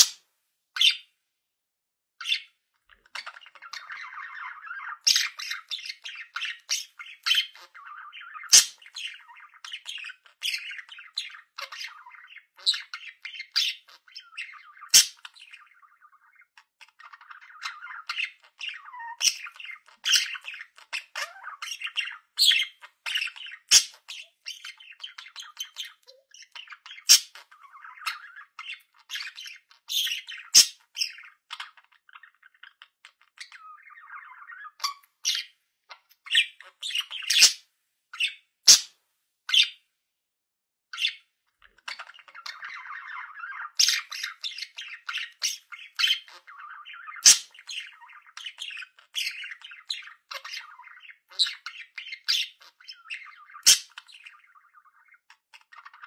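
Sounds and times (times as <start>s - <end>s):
budgerigars chattering: 0.0s - 0.2s, 0.8s - 1.0s, 2.2s - 37.6s, 38.2s - 38.9s, 39.5s - 39.7s, 41.0s - 56.0s.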